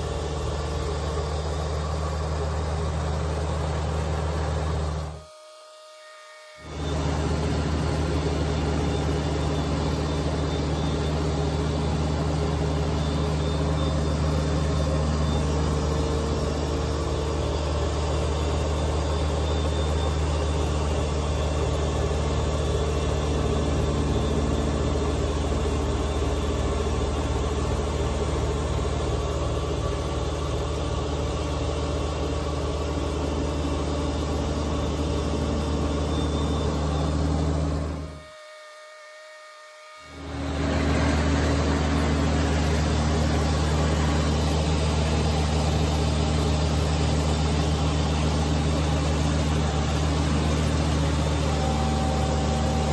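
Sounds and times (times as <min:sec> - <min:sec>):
tractor diesel engine running: 0:06.7 - 0:38.2, 0:40.2 - 0:52.9.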